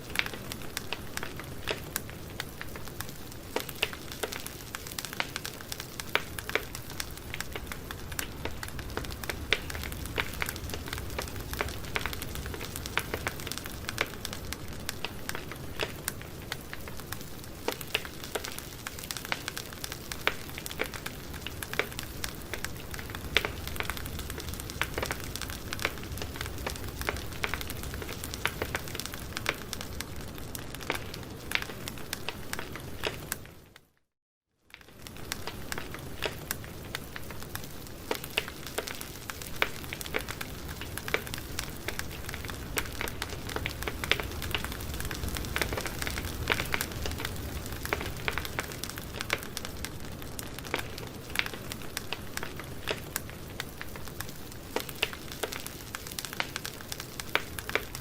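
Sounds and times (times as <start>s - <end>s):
campfire hissing and crackling: 0.0s - 33.8s, 34.7s - 58.0s.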